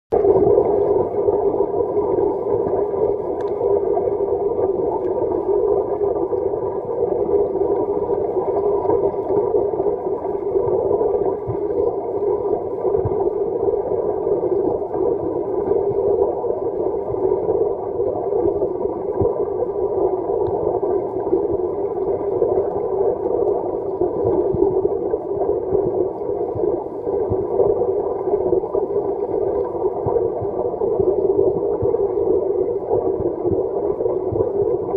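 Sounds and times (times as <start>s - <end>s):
muffled water churning underwater: 0.1s - 34.9s.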